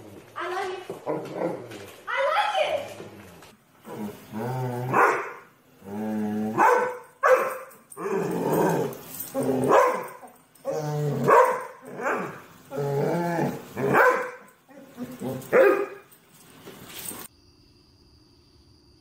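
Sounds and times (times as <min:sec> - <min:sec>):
dog barking and growling: 0:00.0 - 0:02.0, 0:02.6 - 0:16.2.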